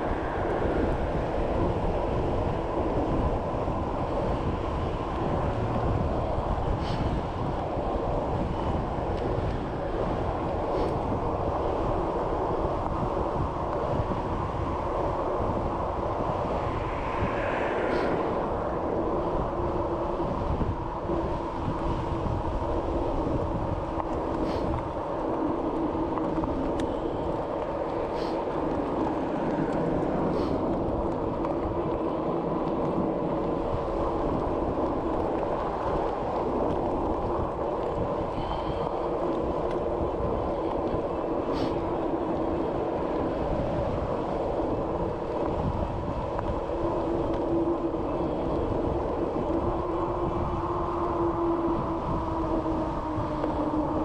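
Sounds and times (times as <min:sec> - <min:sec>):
bicycle road and wind rumble: 0:00.0 - 0:54.0.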